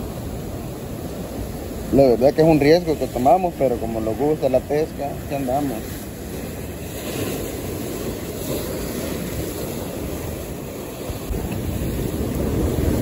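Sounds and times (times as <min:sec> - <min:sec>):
ocean surf breaking on rocks: 0:00.0 - 0:13.0
wind on microphone: 0:00.0 - 0:13.0.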